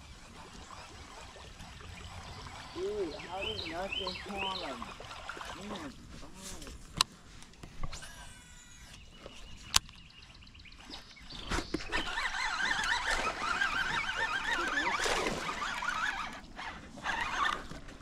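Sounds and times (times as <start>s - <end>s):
birds warbling trills: 0.0s - 6.4s, 7.8s - 17.7s.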